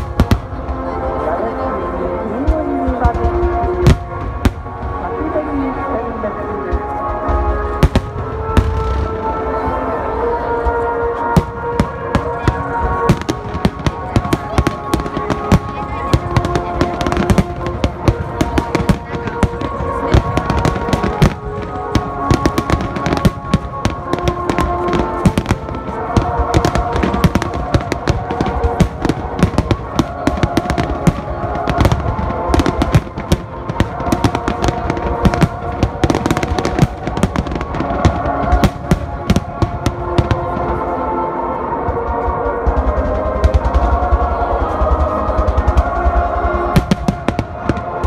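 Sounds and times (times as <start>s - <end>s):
fireworks bangs and crackles: 0.0s - 48.0s
music playing: 0.0s - 48.0s.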